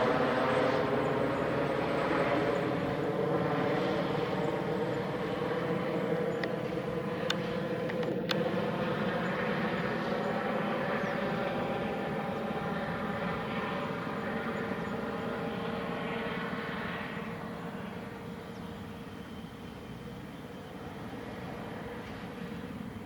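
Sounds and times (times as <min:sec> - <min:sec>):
helicopter engine whine: 0:00.0 - 0:23.0
helicopter rotor noise: 0:00.0 - 0:23.0.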